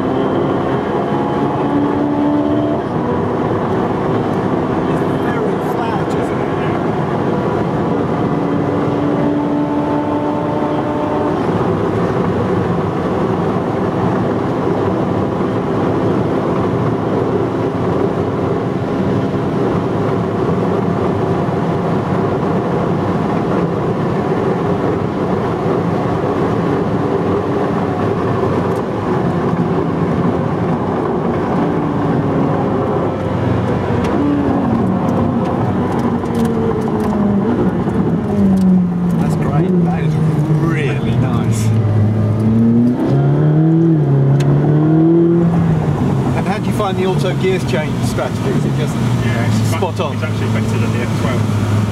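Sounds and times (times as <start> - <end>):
car engine at speed: 0.0 - 51.9
wind and road noise: 0.0 - 51.9.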